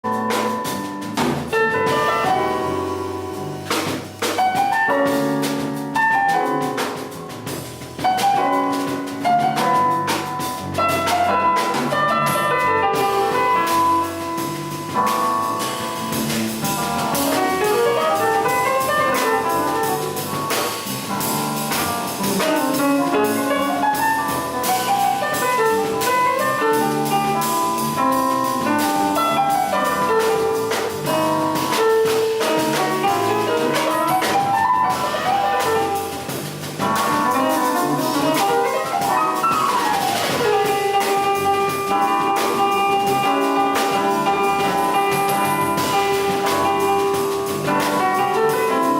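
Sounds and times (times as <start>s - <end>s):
drum kit and cymbals: 0.0s - 48.9s
jazz piano: 0.0s - 48.9s.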